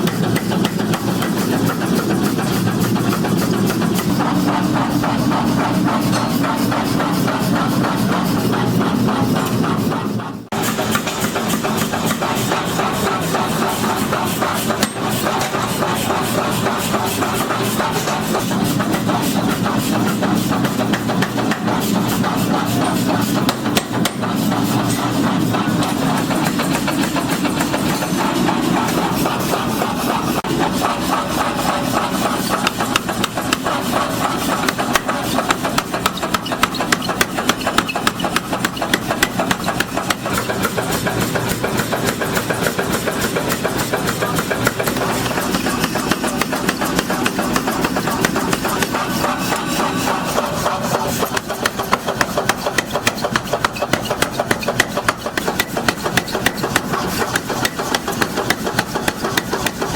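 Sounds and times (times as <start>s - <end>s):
machinery clattering: 0.0s - 59.9s.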